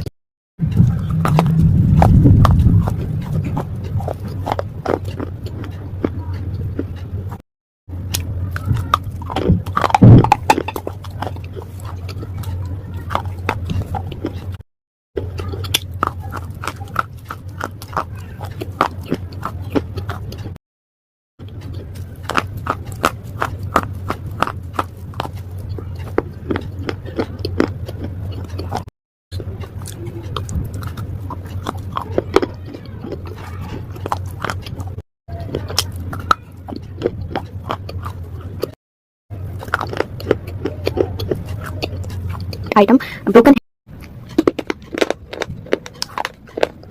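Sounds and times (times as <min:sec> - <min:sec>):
slate crunching when chewed: 0:00.0 - 0:14.6, 0:15.2 - 0:20.6, 0:21.4 - 0:42.8, 0:43.9 - 0:46.9
steady low hum: 0:00.6 - 0:14.6, 0:21.4 - 0:46.9.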